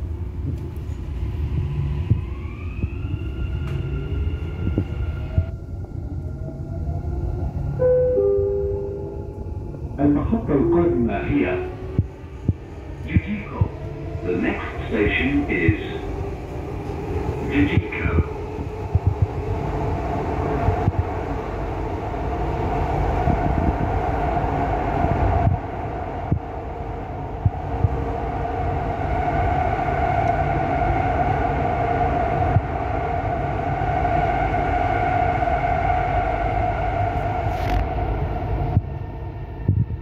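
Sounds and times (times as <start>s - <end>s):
train rumbling in tunnel: 0.0s - 40.0s
train whine: 0.0s - 40.0s.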